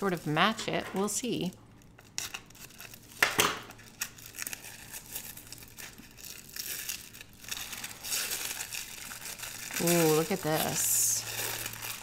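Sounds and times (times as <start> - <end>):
wrapping crinkling and tearing: 0.0 - 12.0.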